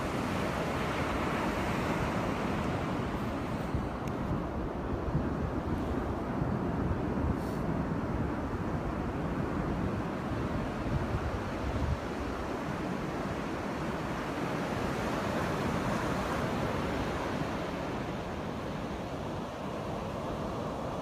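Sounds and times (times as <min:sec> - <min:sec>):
surf breaking on a beach: 0:00.0 - 0:21.0
wind buffeting microphone: 0:00.0 - 0:21.0.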